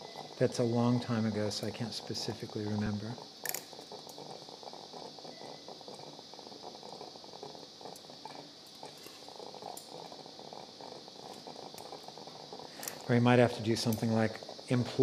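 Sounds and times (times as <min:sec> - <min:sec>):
faint crackle: 0:00.0 - 0:15.0
steady high hiss: 0:00.0 - 0:15.0.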